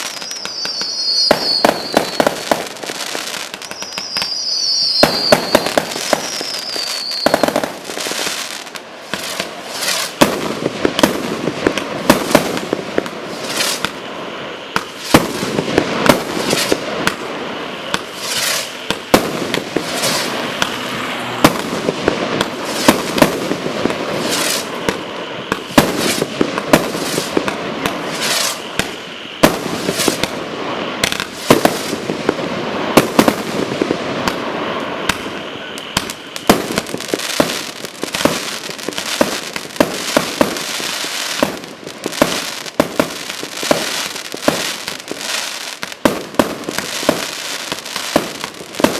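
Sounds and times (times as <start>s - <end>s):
falling firework whistle: 0.0s - 48.9s
fireworks banging and crackling: 0.0s - 48.9s.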